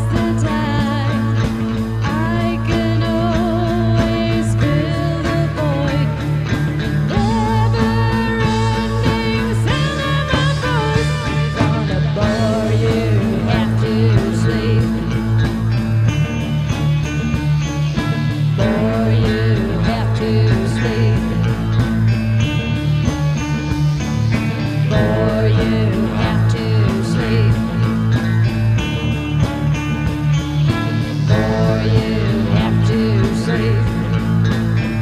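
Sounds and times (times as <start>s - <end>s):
rock band music: 0.0s - 35.0s.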